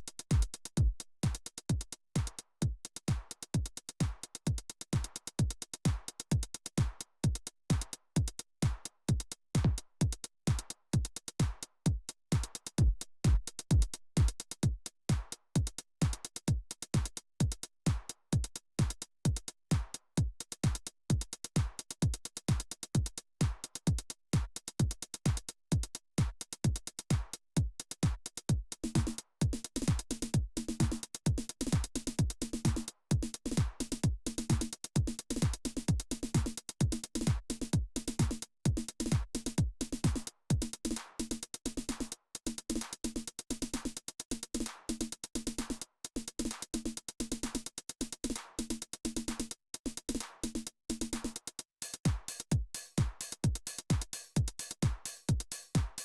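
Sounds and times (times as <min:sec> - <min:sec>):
hi-hat ticks: 0:00.0 - 0:56.0
kick drum: 0:00.0 - 0:56.0.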